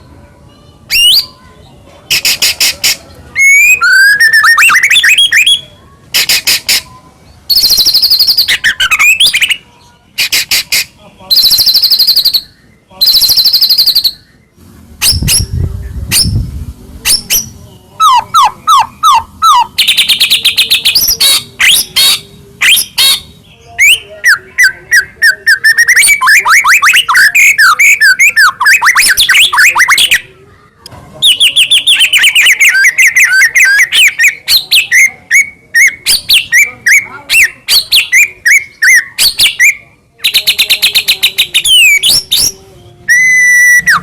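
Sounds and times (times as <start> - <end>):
bird song with chirps and trills: 0.0 - 44.0.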